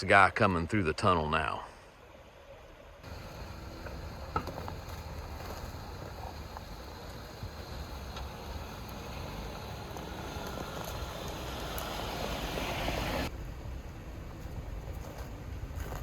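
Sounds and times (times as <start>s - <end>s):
vehicle approaching: 3.0s - 16.0s.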